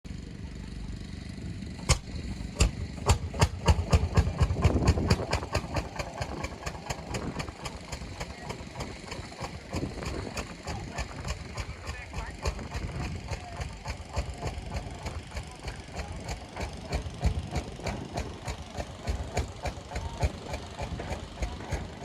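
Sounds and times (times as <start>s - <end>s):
tractor engine exhaust beats: 0.1s - 22.0s.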